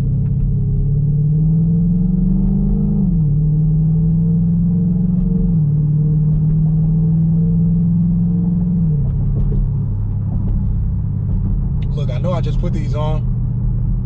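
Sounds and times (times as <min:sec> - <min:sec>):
low engine drone in car cabin: 0:00.0 - 0:14.0
road noise: 0:00.0 - 0:14.0.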